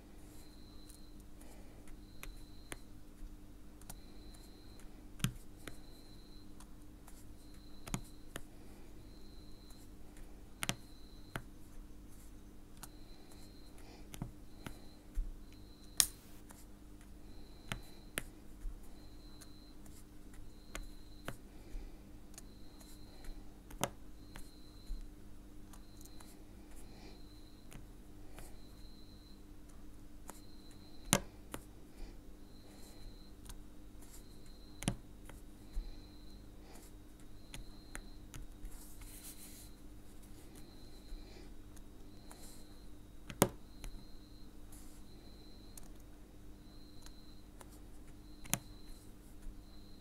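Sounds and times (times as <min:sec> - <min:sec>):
faint high pulsing tone: 0:00.0 - 0:50.0
faint steady hum: 0:00.0 - 0:50.0.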